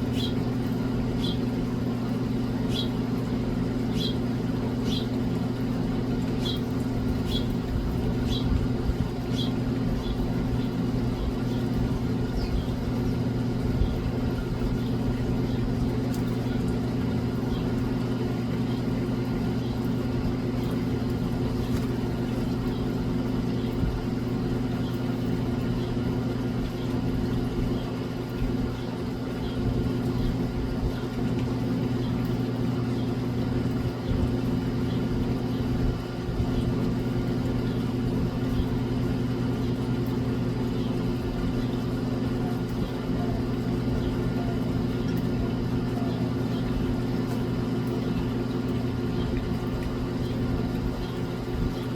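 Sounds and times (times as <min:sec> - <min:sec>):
motor humming: 0:00.0 - 0:51.9.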